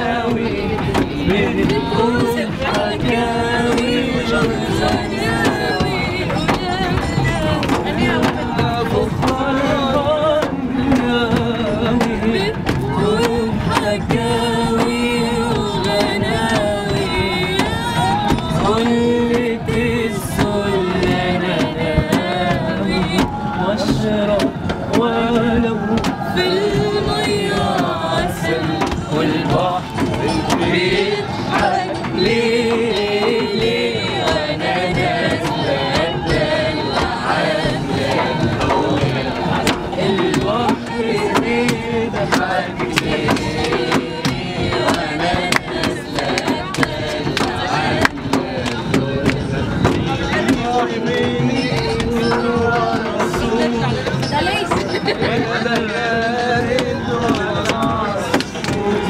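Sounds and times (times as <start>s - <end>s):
woman singing: 0.0s - 49.2s
voices joining in singing: 0.0s - 59.0s.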